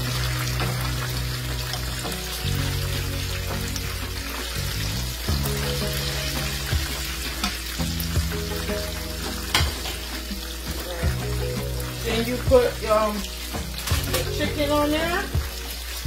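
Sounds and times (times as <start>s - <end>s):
background music with bass: 0.0s - 16.0s
food sizzling in hot oil: 0.0s - 16.0s.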